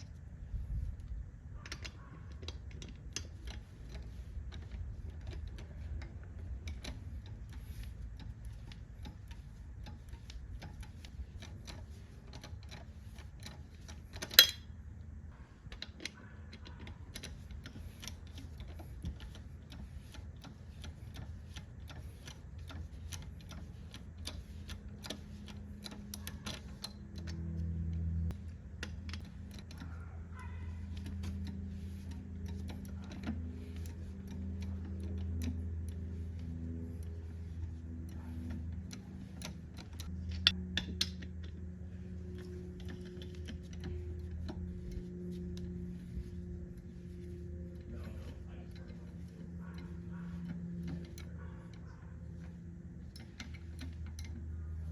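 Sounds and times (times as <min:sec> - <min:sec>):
low steady hum: 0:00.0 - 0:54.9
mechanical clicks and ticks: 0:00.0 - 0:54.9.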